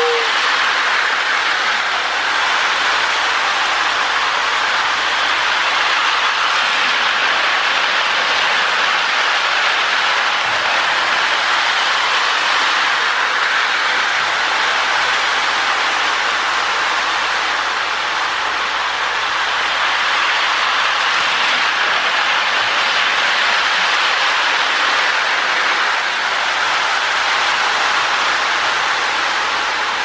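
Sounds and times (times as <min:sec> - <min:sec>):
model train whirring on track: 0:00.0 - 0:30.0.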